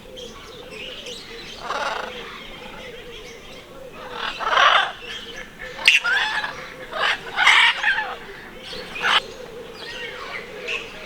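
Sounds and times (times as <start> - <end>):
birds calling loudly: 0.0 - 11.0
quiet bird chirps: 0.0 - 11.0.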